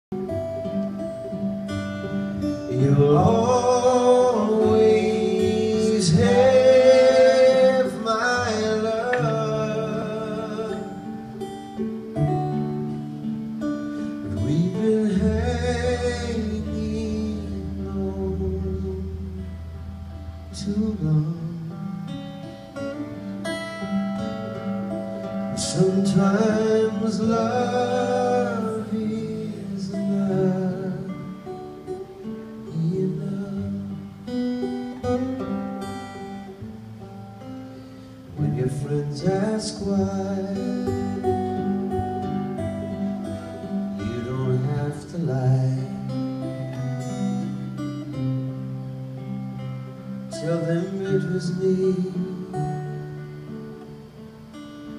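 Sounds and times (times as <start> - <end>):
acoustic guitar strumming: 0.1 - 54.9.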